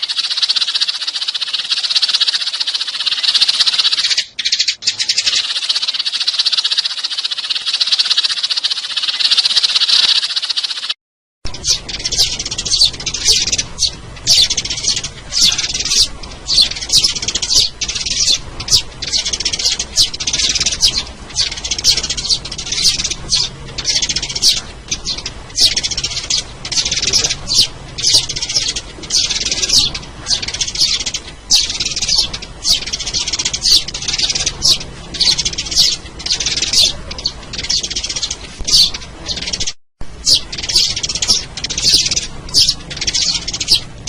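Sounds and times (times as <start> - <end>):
sparrows chirping: 0.0 - 44.0.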